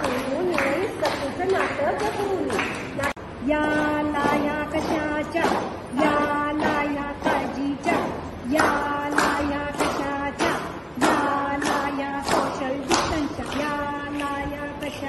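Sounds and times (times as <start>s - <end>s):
hands clapping: 0.0s - 15.0s
women singing in unison: 0.0s - 15.0s.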